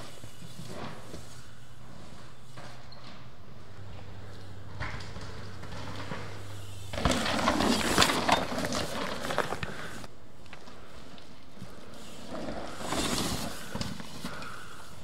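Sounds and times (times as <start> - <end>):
bike rattling: 0.0 - 15.0
bike tyres skidding in dirt: 0.0 - 15.0
steady low hum: 0.0 - 15.0.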